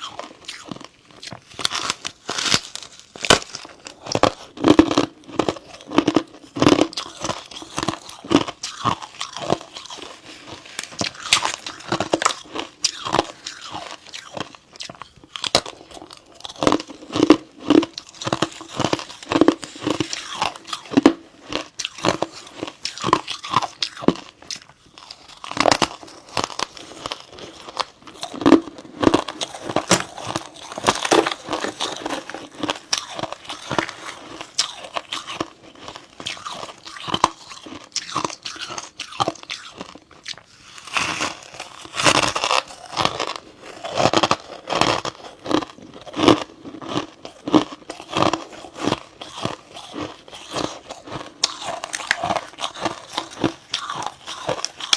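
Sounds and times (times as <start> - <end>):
ice chips being chewed: 0.0 - 54.9.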